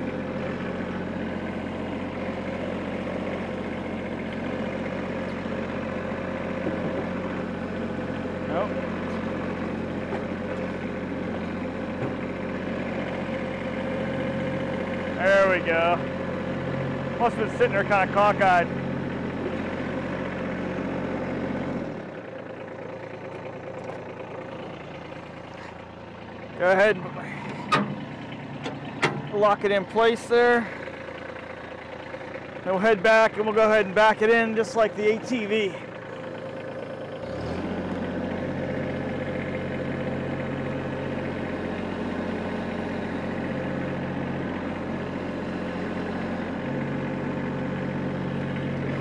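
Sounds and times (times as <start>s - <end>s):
tractor diesel engine idling: 0.0s - 49.0s.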